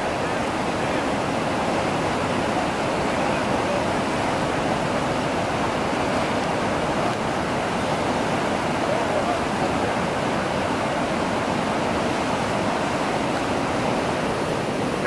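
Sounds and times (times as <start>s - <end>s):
rapids rushing water: 0.0s - 15.0s.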